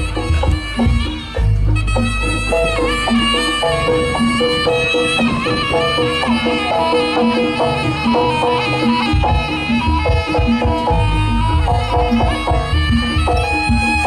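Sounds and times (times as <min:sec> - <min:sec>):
heavy low bass: 0:00.0 - 0:14.0
pitched percussion pattern: 0:00.0 - 0:14.0
wavering wind instrument melody: 0:00.0 - 0:14.0.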